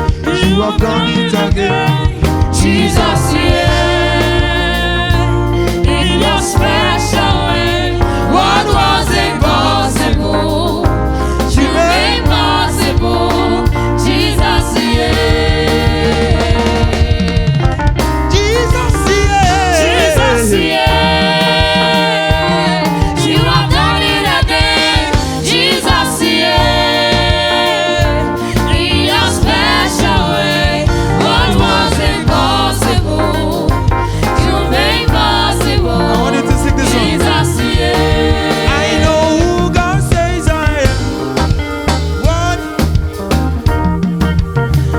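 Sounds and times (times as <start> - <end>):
band with drums and bass: 0.0 - 44.9
gospel singing: 0.0 - 44.9.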